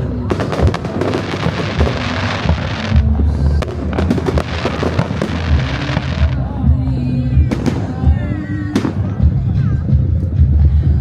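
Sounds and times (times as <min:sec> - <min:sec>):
fireworks bursting and crackling: 0:00.0 - 0:09.5
music playing: 0:00.0 - 0:11.0.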